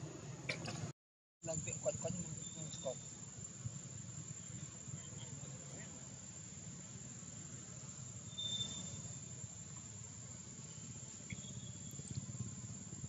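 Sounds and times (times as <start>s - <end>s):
low steady rumble: 0.0s - 13.0s
insects trilling: 1.4s - 13.0s.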